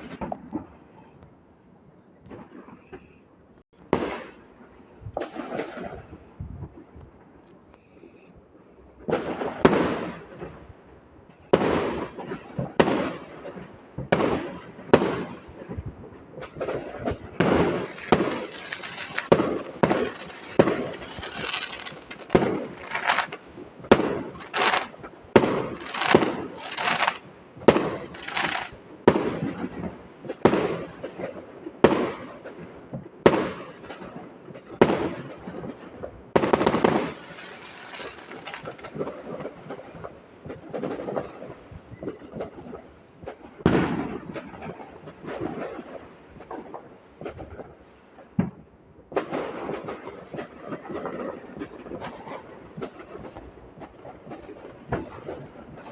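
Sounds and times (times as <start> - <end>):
fireworks banging: 3.8 - 7.3, 9.0 - 55.9.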